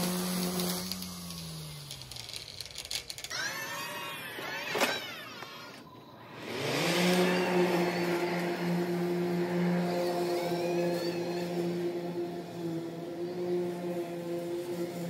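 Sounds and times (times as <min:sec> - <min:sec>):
electric mower whine: 0:00.0 - 0:15.0
steady motor hum: 0:00.0 - 0:15.0
string trimmer motor winding down: 0:00.0 - 0:15.0.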